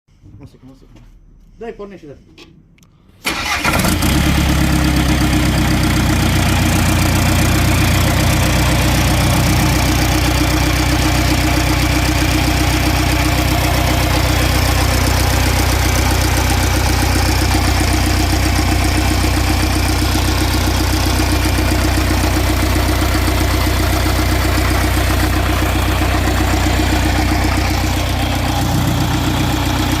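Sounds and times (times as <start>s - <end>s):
engine idling: 3.2s - 30.0s.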